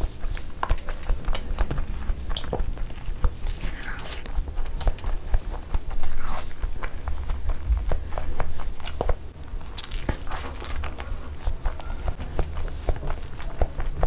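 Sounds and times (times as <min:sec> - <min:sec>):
close chewing: 0:00.0 - 0:14.0.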